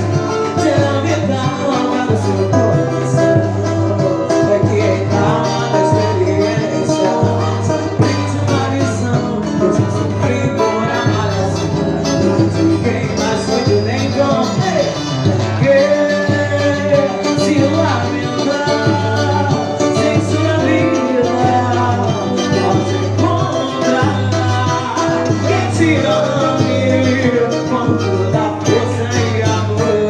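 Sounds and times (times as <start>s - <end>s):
small band playing latin music: 0.0s - 30.0s.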